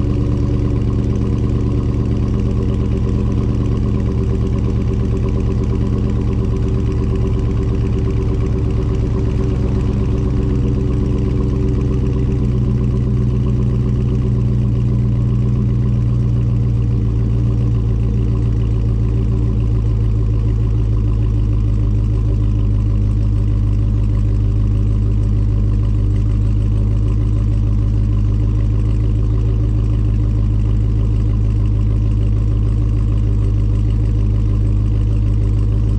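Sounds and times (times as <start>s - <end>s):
loud car engine idling: 0.0s - 35.9s.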